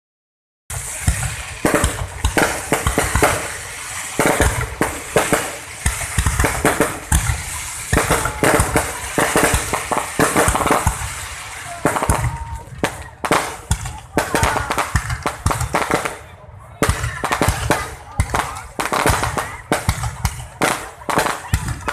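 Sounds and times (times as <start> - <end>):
fireworks bangs and crackles: 0.7 - 21.9.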